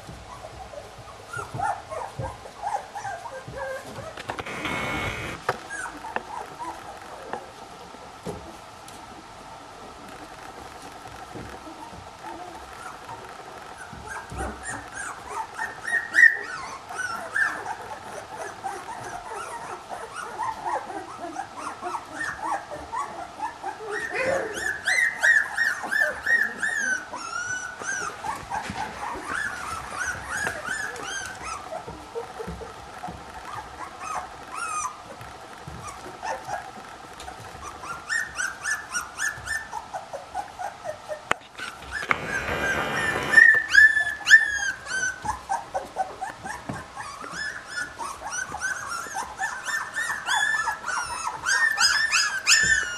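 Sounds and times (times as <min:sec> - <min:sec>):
puppies whimpering and squeaking: 0:00.0 - 0:08.6, 0:09.8 - 0:52.9.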